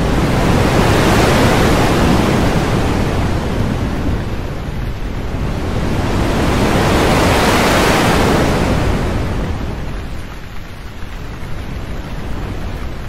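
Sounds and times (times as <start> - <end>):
thunderstorm roar: 0.0 - 10.5.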